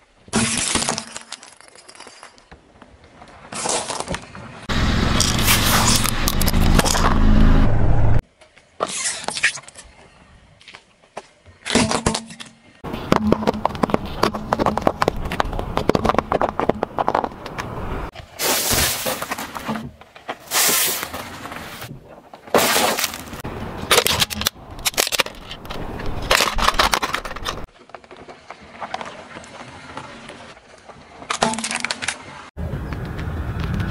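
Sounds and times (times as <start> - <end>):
objects crunching under car tyre: 0.3 - 7.6, 10.6 - 33.9.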